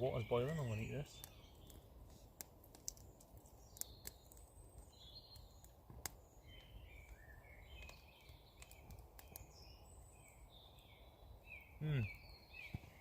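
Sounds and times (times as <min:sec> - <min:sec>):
birds chirping and trilling: 0:00.0 - 0:02.1, 0:02.7 - 0:13.0.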